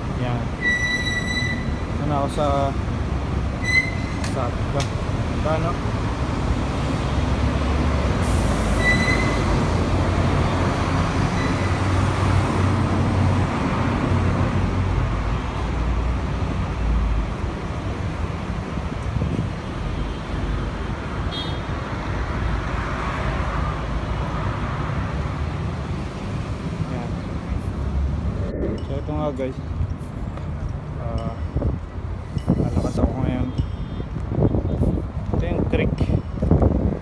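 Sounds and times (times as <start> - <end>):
bus engine rumble: 0.0 - 37.0
busy road traffic noise: 0.0 - 37.0.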